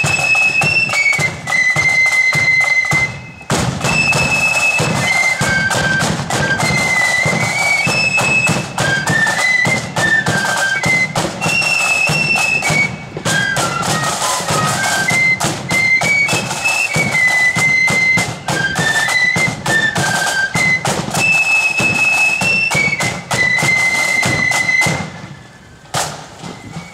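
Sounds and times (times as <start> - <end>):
flutes playing a march: 0.0 - 26.9
rattling side drums: 0.0 - 26.9.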